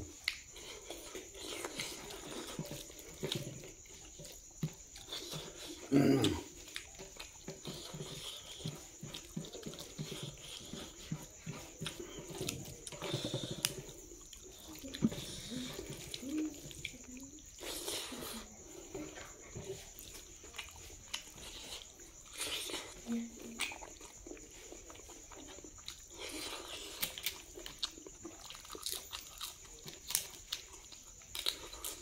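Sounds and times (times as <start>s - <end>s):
wet chewing and lip-smacking: 0.0s - 32.0s.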